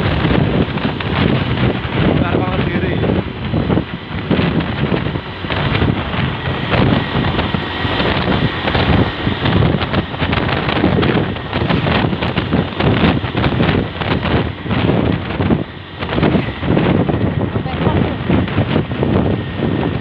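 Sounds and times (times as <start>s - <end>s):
vehicle running: 0.0s - 20.0s
wind buffeting microphone: 0.0s - 20.0s.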